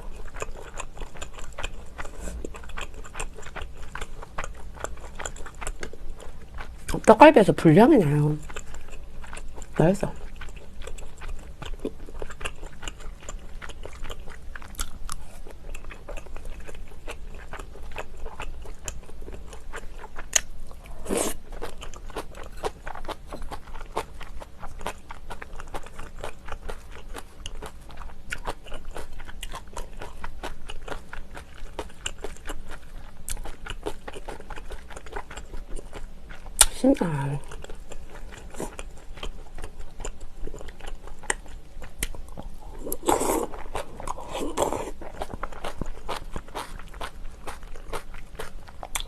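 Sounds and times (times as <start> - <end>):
person chewing food: 0.0 - 7.1, 8.3 - 49.0.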